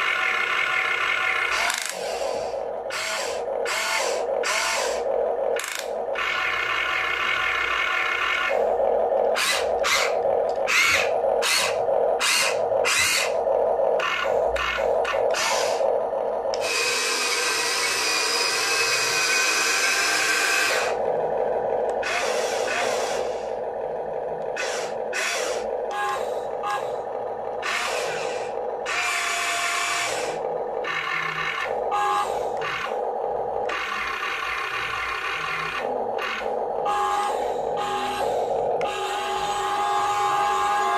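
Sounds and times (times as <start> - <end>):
toy excavator electric motors whirring: 0.0 - 40.9.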